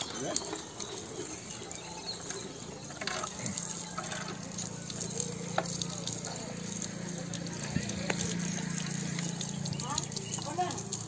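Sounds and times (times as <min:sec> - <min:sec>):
hose water spraying and splashing: 0:00.0 - 0:11.0.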